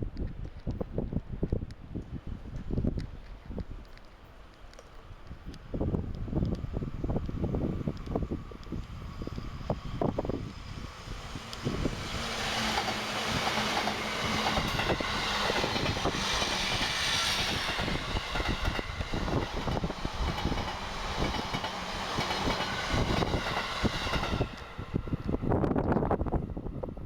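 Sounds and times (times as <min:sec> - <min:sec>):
wind buffeting microphone: 0:00.0 - 0:04.0, 0:04.6 - 0:27.0
electric train passing: 0:04.4 - 0:27.0.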